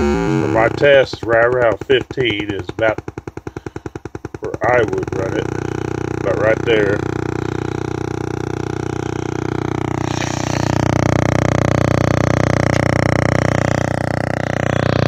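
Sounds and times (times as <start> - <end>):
loudspeaker low buzz: 0.0 - 15.0.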